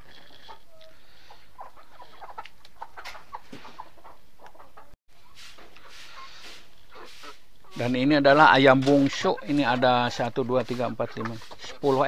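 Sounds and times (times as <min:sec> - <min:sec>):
chickens clucking softly: 0:00.1 - 0:07.8, 0:08.8 - 0:12.0.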